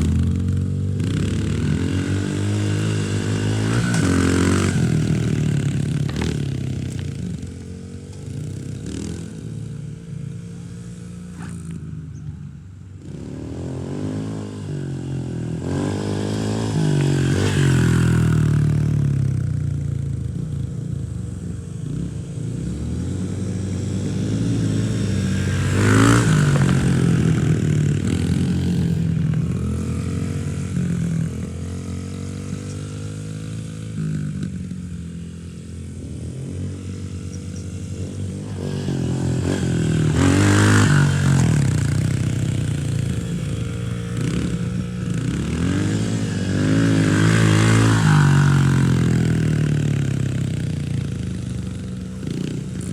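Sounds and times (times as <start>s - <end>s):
dirt bike engine revving: 0.0s - 11.8s, 13.0s - 52.9s.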